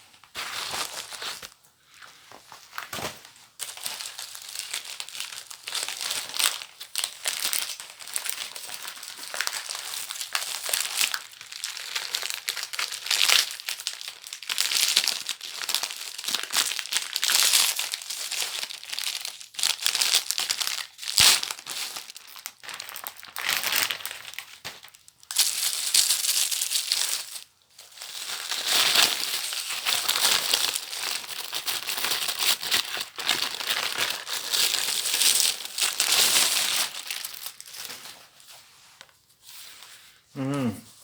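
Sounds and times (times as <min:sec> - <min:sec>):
paper packaging crinkling: 0:00.0 - 0:40.0.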